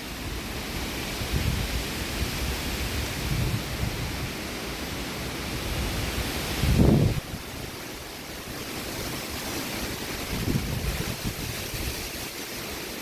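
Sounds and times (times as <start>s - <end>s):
strong wind rushing: 0.2s - 12.9s
wind buffeting microphone: 0.2s - 13.0s.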